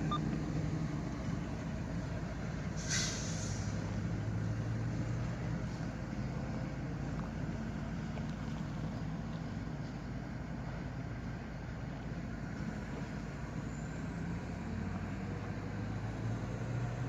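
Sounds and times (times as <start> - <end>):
diesel locomotive engine hum: 0.0 - 17.0.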